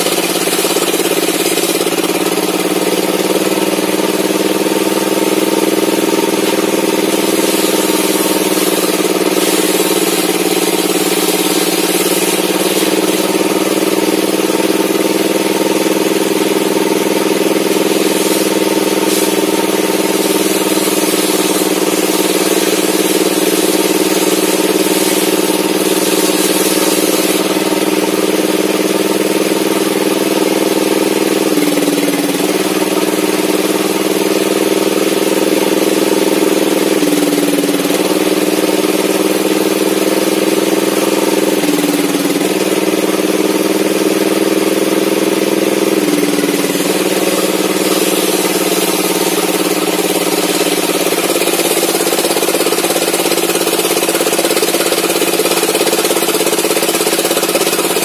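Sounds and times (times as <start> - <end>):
table saw running: 0.0 - 58.0.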